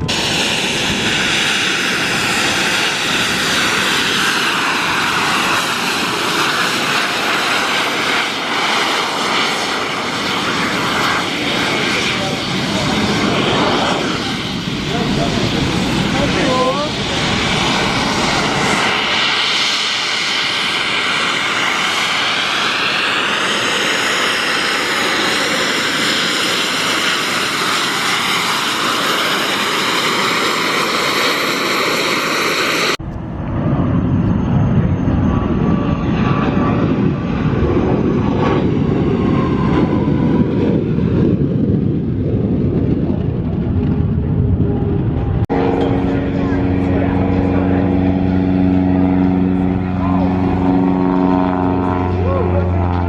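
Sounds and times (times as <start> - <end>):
airplane engine high whine: 0.0 - 53.0
deep rough airplane engine: 0.0 - 53.0.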